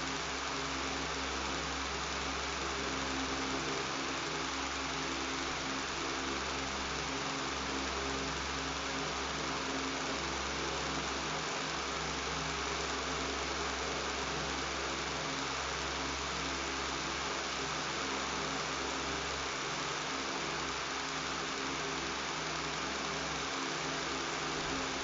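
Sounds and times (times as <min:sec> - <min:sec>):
electric fan running: 0:00.0 - 0:25.0.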